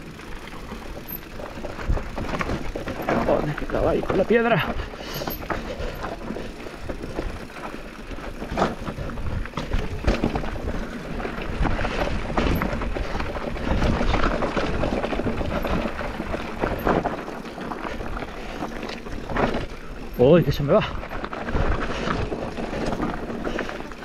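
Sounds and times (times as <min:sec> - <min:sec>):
bike knocking and rattling: 0:00.0 - 0:24.0
tyres rolling over dirt and stones: 0:00.0 - 0:24.0.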